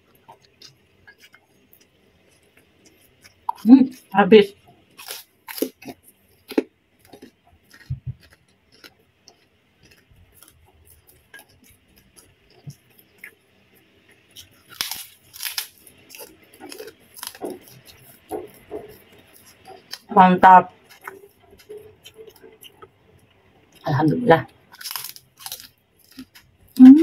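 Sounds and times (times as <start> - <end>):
soft chewing and mouth clicks: 0.0 - 20.1, 20.7 - 23.9, 24.5 - 26.8.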